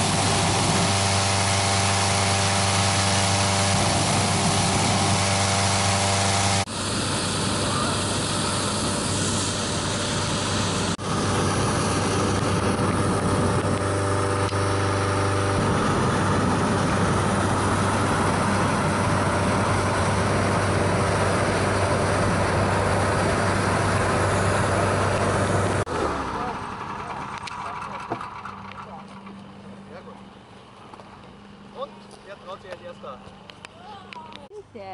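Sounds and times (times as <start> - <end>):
inflator fan humming: 0.0 - 34.9.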